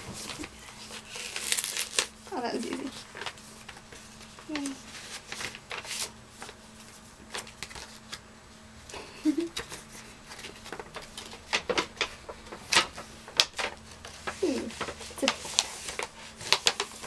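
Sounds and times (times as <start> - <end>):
paper and envelope rustling: 0.0 - 8.2, 9.2 - 17.0.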